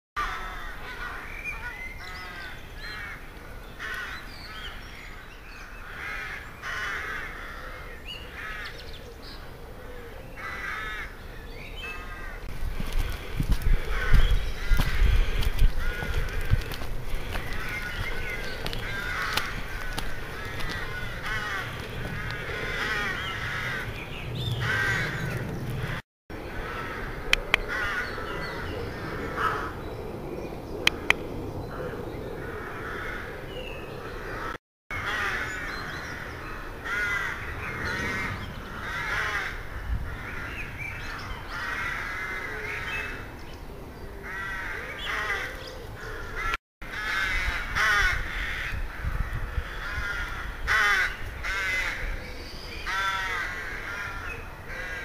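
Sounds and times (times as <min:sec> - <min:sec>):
crows cawing: 0:00.2 - 0:04.8, 0:05.7 - 0:08.9, 0:09.8 - 0:11.2, 0:11.8 - 0:29.9, 0:30.9 - 0:43.3, 0:44.2 - 0:55.0.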